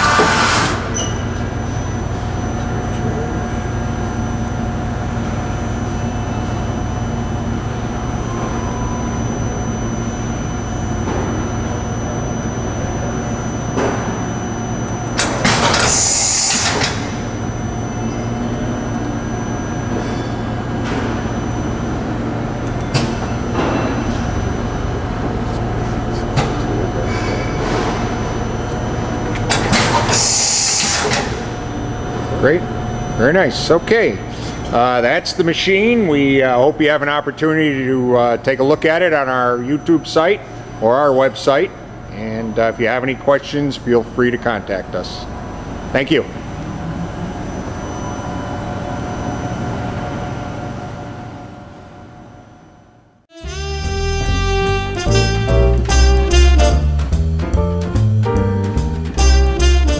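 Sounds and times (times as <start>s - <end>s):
machining center humming: 0.0s - 59.9s.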